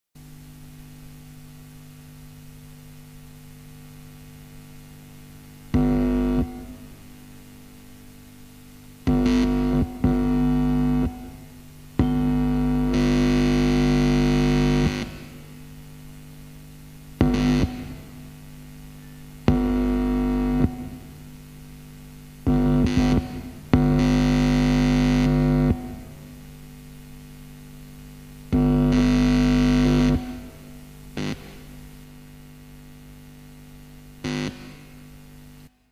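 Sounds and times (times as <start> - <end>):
low droning hum: 0.2 - 35.7.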